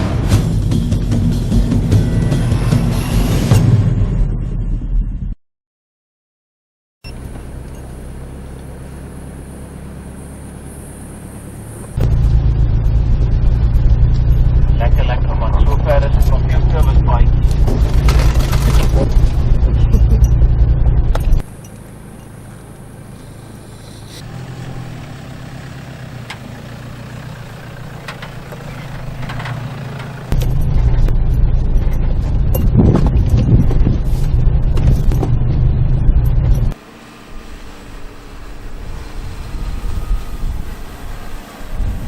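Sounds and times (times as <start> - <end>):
off-road vehicle engine running: 0.0 - 4.9, 7.0 - 42.0.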